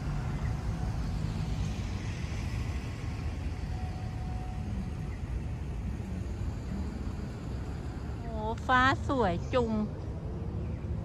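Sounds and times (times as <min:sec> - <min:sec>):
low rumble of city traffic: 0:00.0 - 0:11.0.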